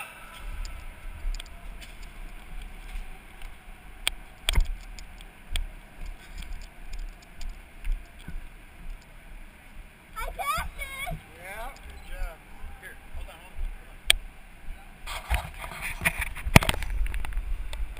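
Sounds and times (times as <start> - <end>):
low uneven rumble: 0.0 - 17.9.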